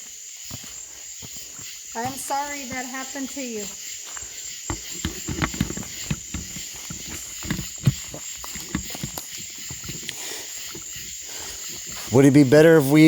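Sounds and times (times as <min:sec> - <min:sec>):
night insects droning: 0:00.0 - 0:13.0.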